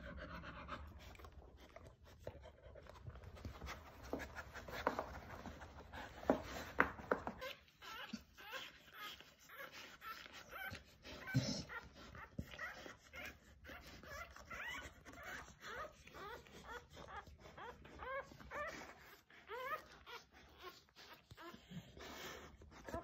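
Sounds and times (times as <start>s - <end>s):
puppies squeaking and whimpering: 0.0s - 23.0s.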